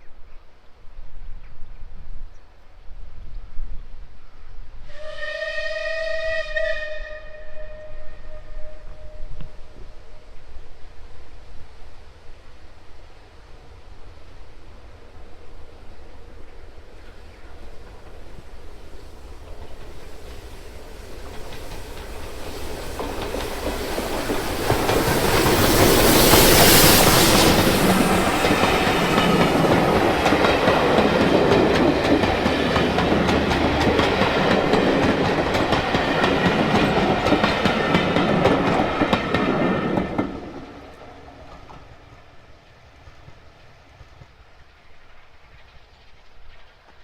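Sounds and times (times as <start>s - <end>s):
train hiss: 2.9s - 47.0s
train passing: 3.9s - 47.0s.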